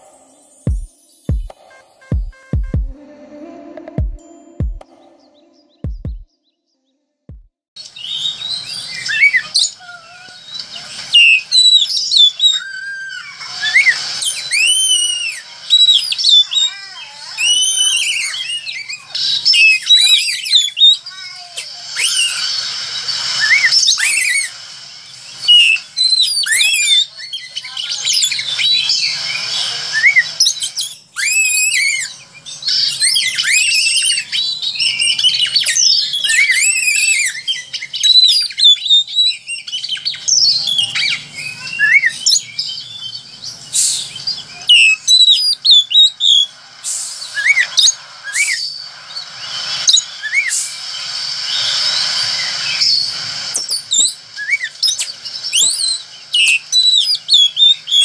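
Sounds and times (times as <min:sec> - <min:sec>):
bird song whistling and chattering: 0:07.8 - 0:58.0.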